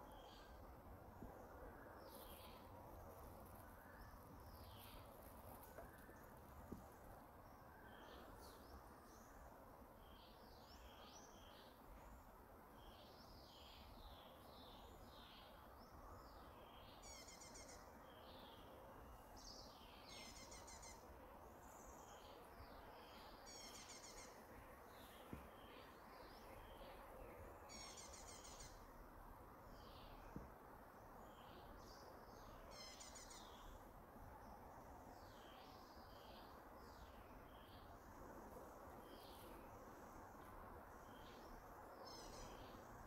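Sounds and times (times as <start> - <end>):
small birds chirping: 0.0 - 12.2, 12.8 - 29.0, 29.7 - 43.0
soft outdoor hiss: 0.0 - 43.0.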